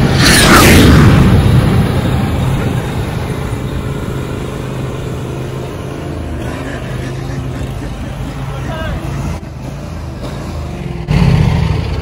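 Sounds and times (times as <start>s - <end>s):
riding mower engine droning: 0.0s - 12.0s.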